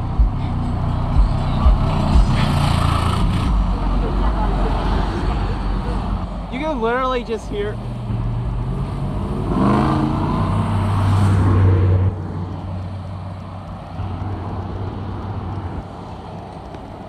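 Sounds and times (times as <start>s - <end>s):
passing traffic: 0.0s - 17.0s.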